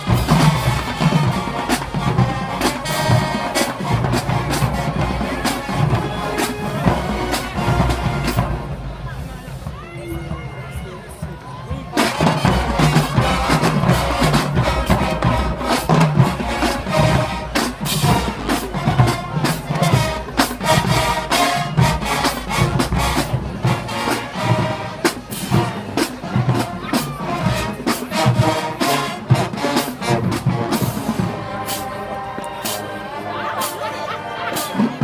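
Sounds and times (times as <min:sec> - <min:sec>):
drumline percussion: 0:00.0 - 0:35.0
marching band brass: 0:00.0 - 0:35.0.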